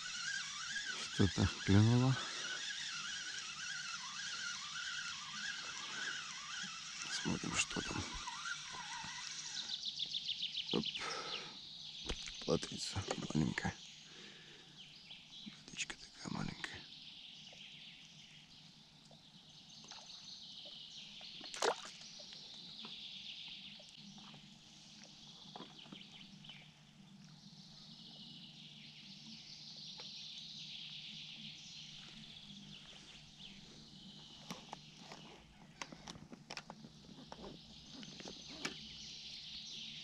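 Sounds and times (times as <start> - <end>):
distant birds calling: 0.0 - 40.0.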